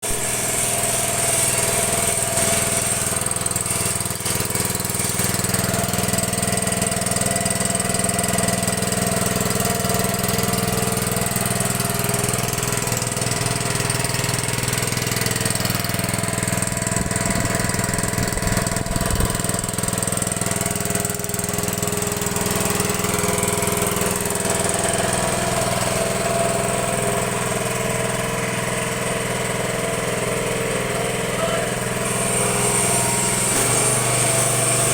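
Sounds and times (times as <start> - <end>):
drilling machine engine running: 0.0 - 34.9.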